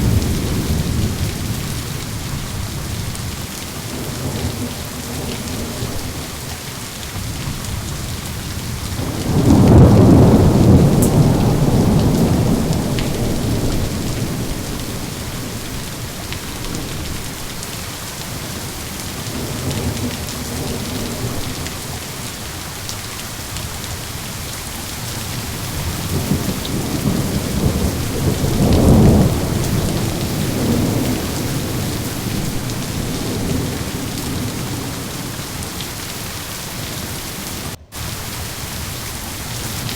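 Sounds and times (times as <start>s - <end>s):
thunder rumbling: 0.0s - 17.8s, 24.9s - 39.9s
heavy rain: 0.0s - 39.9s.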